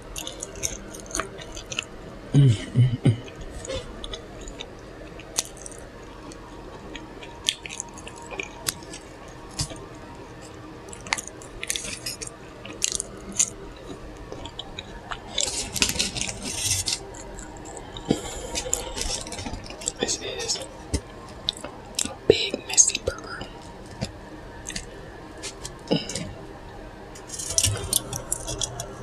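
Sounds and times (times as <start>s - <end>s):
chewing with wet mouth smacking: 0.1s - 1.9s, 3.1s - 26.4s.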